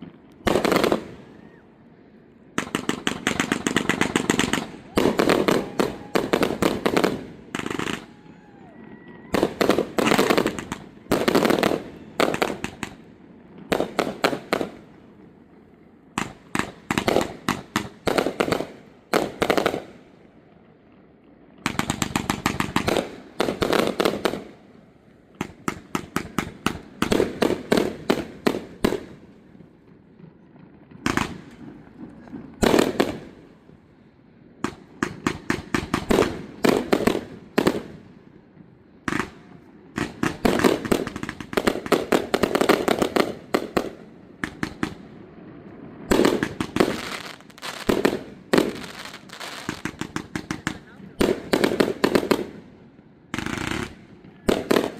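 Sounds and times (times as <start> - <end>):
fireworks bangs: 0.0 - 54.9
fireworks crackling: 0.0 - 54.9.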